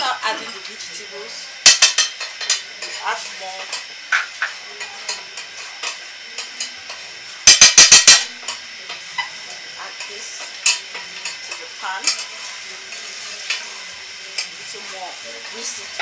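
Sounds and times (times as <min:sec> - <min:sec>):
oil sizzling in frying pan: 0:00.0 - 0:16.0
utensil scraping pan: 0:01.6 - 0:16.0.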